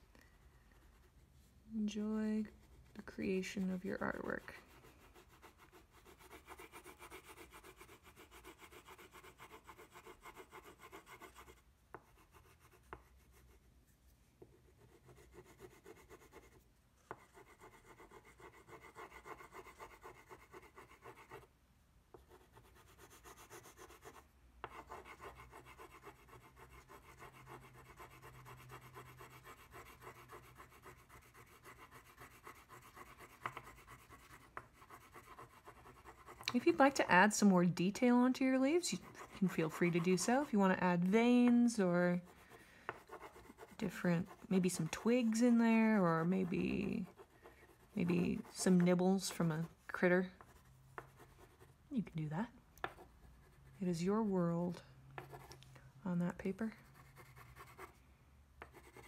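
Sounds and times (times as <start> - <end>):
crayon scratching on paper: 2.4 - 13.6, 14.5 - 21.5, 22.1 - 51.7, 56.5 - 58.0, 58.6 - 59.0.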